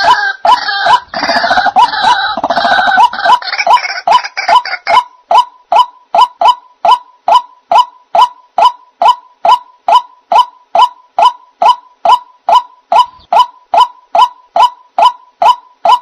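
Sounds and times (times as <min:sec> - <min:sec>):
bird lure call: 0:00.9 - 0:16.0.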